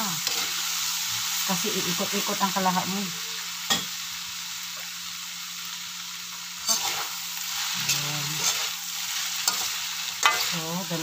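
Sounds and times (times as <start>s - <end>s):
noodles sizzling in a wok: 0.0s - 11.0s.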